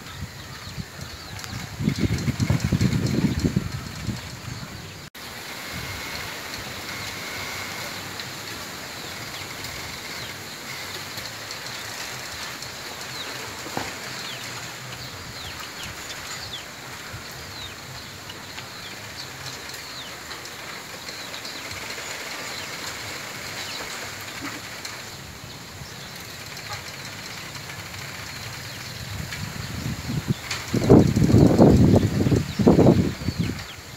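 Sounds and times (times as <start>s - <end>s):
bamboo stems squeaking: 0.0s - 33.9s
cane ticking: 0.7s - 33.9s
bamboo leaves rustling: 1.6s - 33.9s.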